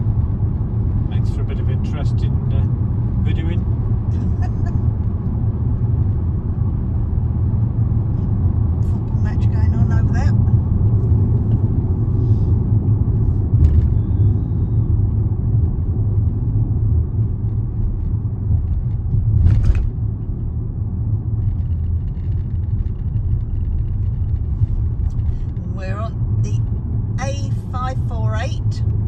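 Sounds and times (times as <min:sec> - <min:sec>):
car road rumble from inside: 0:00.0 - 0:29.0.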